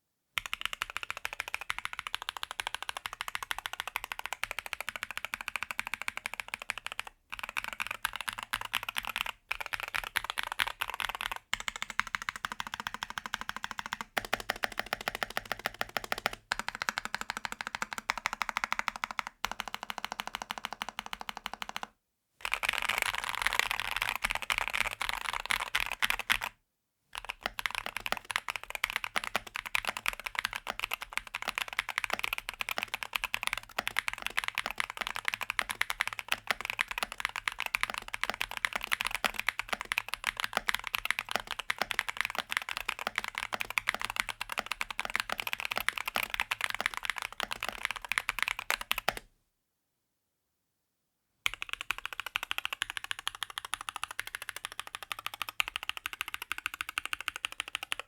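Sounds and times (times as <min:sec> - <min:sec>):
mechanical keyboard typing: 0:00.4 - 0:21.9, 0:22.5 - 0:26.5, 0:27.2 - 0:49.3, 0:51.5 - 0:58.0.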